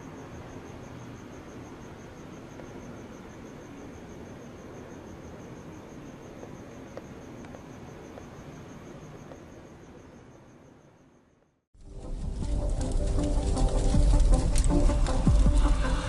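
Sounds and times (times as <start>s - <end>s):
crickets chirping: 0.0s - 16.0s
low background hiss: 0.0s - 16.0s.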